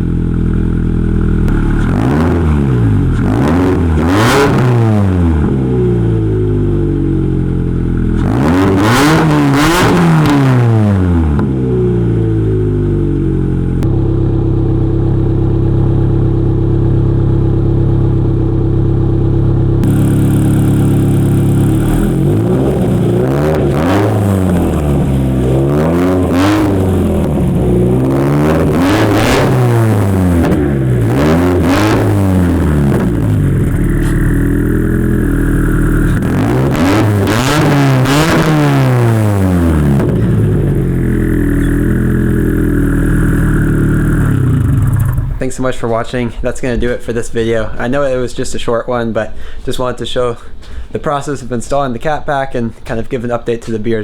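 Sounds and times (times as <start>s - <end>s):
car engine idling and revving: 0.0s - 45.5s.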